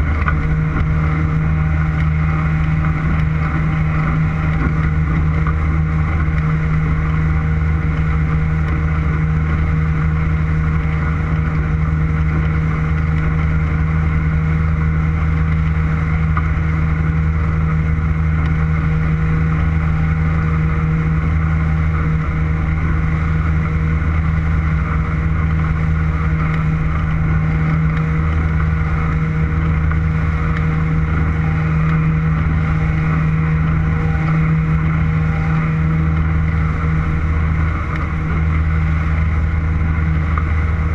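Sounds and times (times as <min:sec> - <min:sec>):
motorboat engine humming: 0:00.0 - 0:40.9.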